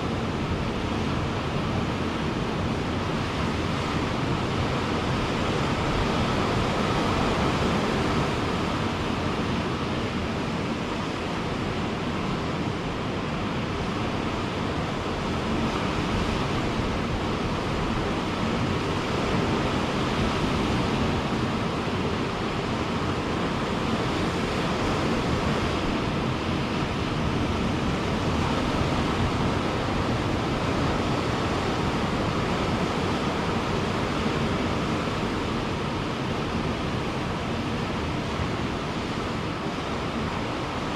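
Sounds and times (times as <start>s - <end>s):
ocean surf breaking: 0.0s - 40.9s
wind on microphone: 0.0s - 40.9s.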